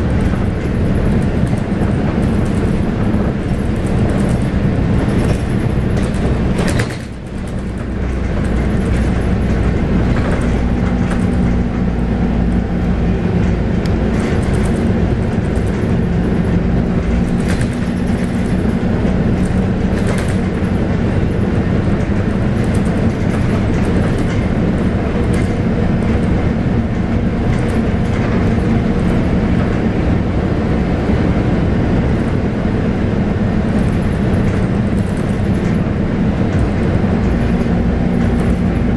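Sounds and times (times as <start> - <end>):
bus diesel engine droning: 0.0 - 38.9
road rumble: 0.0 - 38.9.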